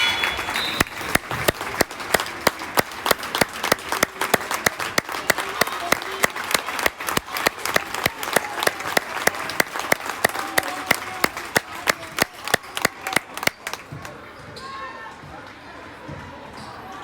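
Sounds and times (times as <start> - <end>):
sharp hand claps: 0.0 - 14.0
crowd applauding: 0.0 - 14.1.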